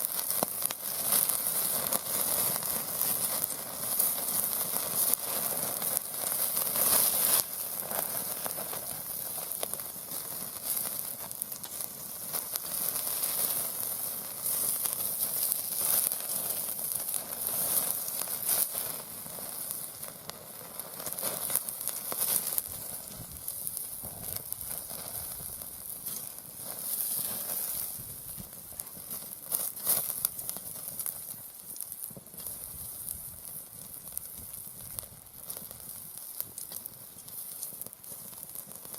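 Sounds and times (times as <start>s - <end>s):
fire crackles: 0.0s - 38.9s
meat sizzling over wood fire: 0.0s - 38.9s.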